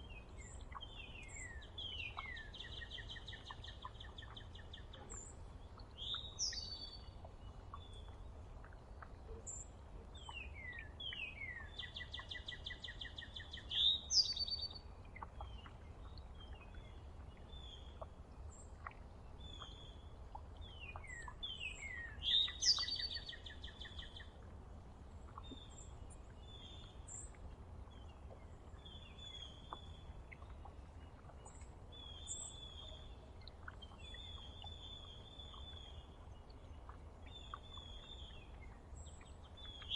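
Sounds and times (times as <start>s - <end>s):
faint low rumble: 0.0s - 39.9s
songbirds singing: 0.0s - 39.9s.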